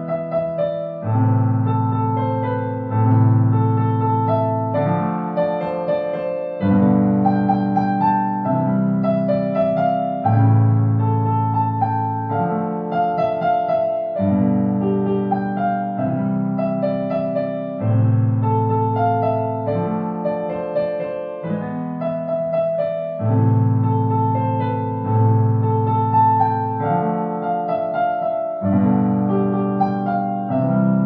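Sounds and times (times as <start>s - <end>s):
slow solo piano melody: 0.0s - 31.0s.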